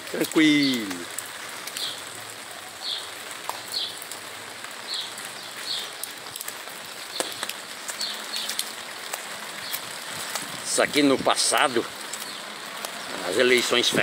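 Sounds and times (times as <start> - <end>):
rain falling on wet street: 0.0 - 14.0
raindrops tapping an umbrella: 0.0 - 14.0.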